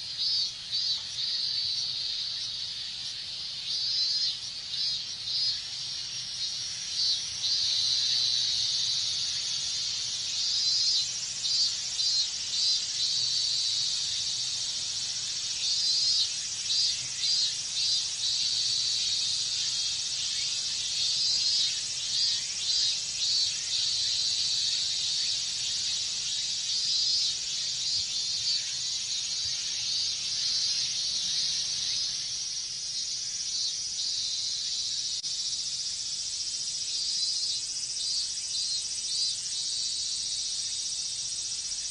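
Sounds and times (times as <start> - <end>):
cicadas droning: 0.0 - 41.9
cicadas pulsed calls: 0.0 - 41.9.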